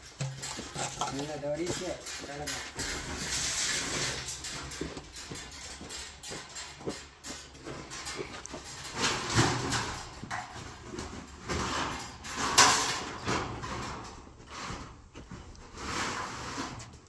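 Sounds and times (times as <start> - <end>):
corrugated metal sheet rattling: 0.0 - 17.0.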